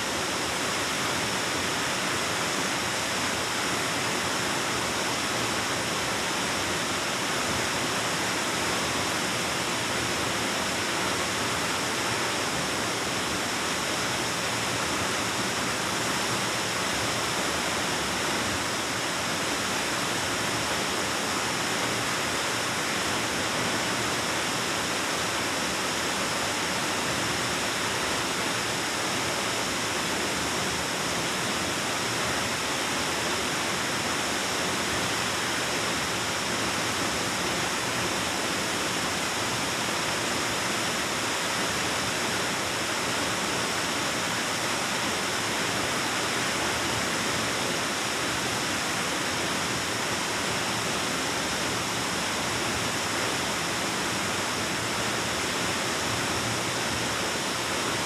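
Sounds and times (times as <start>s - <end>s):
waterfall echoing in cave: 0.0s - 58.0s.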